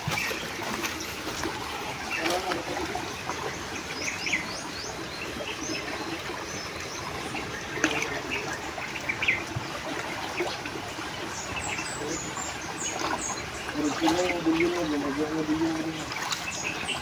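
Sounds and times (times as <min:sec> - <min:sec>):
birds chirping: 0:00.0 - 0:17.0
water splashing around wading legs: 0:00.0 - 0:17.0.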